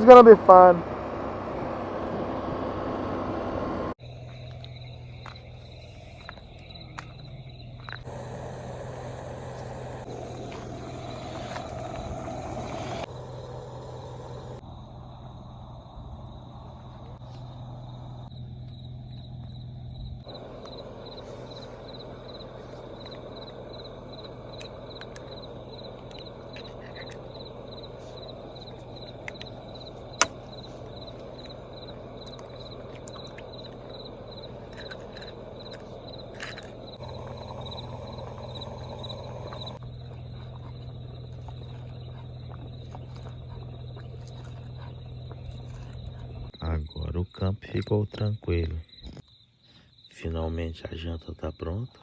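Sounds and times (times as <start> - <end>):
low steady hum: 0.0 - 46.8
crickets chirping: 0.0 - 52.0.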